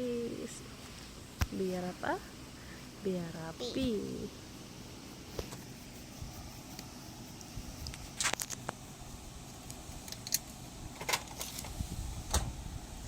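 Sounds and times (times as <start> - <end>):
faint room tone hiss: 0.0 - 13.0.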